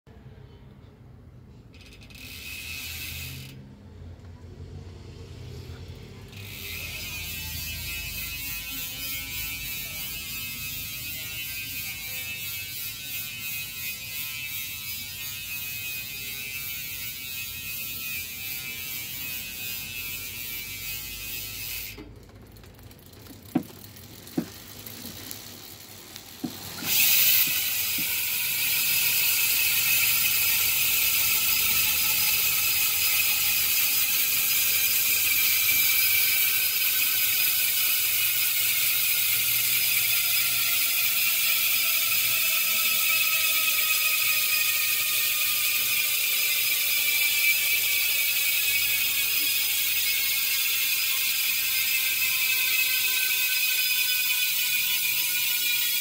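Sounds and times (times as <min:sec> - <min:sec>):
bicycle hub freewheeling buzz: 0:01.6 - 0:56.0.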